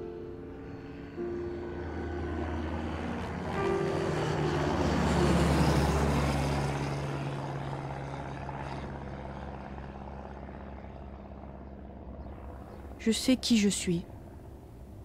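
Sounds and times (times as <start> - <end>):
propeller plane flying overhead: 0.0 - 15.0.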